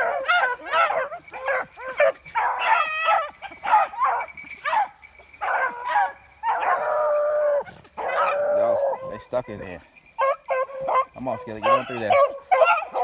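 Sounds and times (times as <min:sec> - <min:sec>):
dogs yelping and baying: 0:00.0 - 0:13.0.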